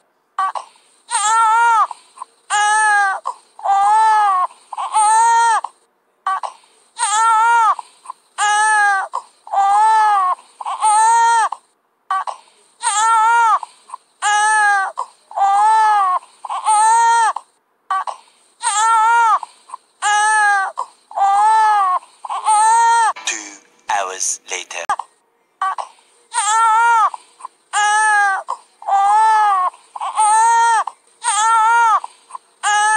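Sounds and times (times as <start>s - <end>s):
baby crying: 0.4s - 23.2s, 24.8s - 32.9s.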